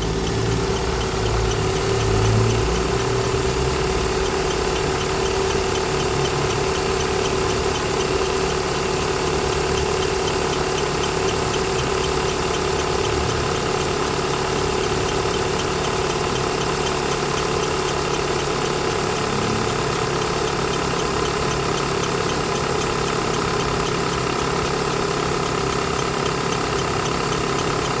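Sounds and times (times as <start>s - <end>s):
car engine idling: 0.0s - 28.0s
drive belt chirping: 0.0s - 28.0s.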